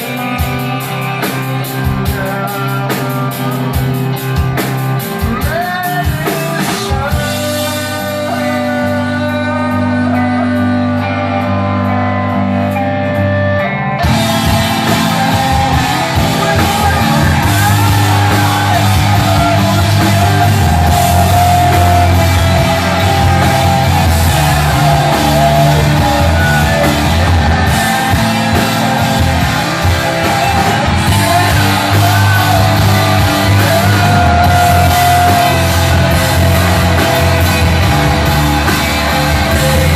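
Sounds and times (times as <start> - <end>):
drums and crashing cymbals: 0.0 - 9.5, 14.0 - 39.9
bass guitar: 0.0 - 39.9
electric guitar chords: 0.0 - 39.9.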